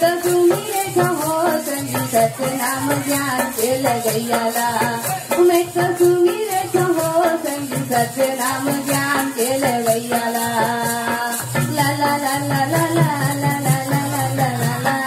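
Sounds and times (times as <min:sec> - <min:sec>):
person singing folk melody: 0:00.0 - 0:15.0
rattling percussion rhythm: 0:00.0 - 0:15.0.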